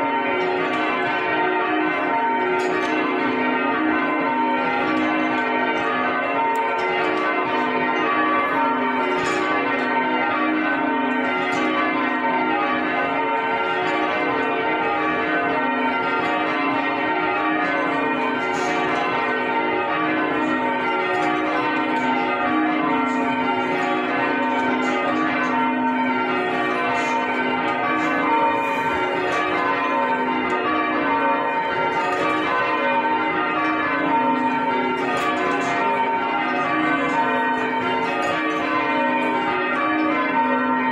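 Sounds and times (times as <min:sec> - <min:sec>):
church bells clanging: 0:00.0 - 0:40.9.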